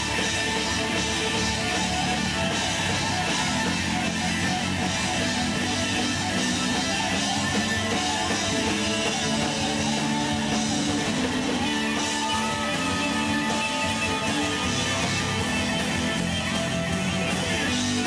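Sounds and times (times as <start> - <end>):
live instrumental band: 0.0 - 18.0.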